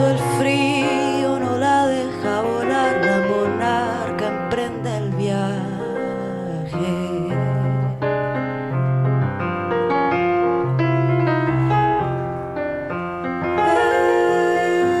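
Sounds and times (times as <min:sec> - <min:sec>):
slow piano ballad: 0:00.0 - 0:15.0.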